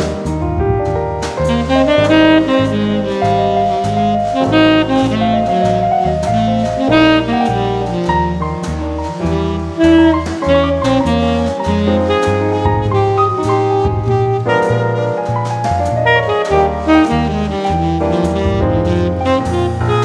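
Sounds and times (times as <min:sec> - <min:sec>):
instrumental jazz music: 0:00.0 - 0:20.0.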